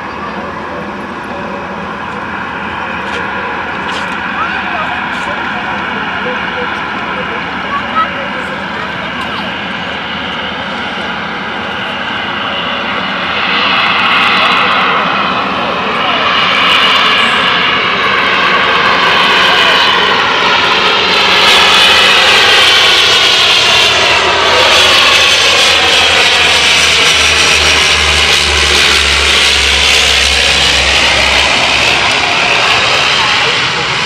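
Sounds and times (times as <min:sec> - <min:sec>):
turboprop plane passing: 0:00.0 - 0:34.0.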